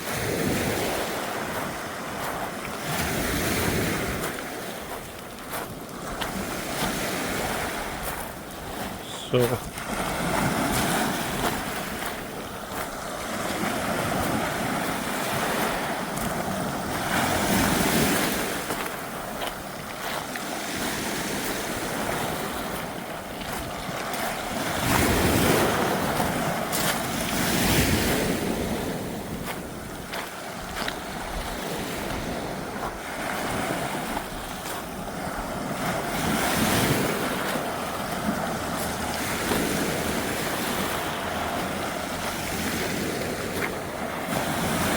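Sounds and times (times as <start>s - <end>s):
waves breaking on shore: 0.0s - 44.9s
wind blowing across microphone: 0.0s - 44.9s.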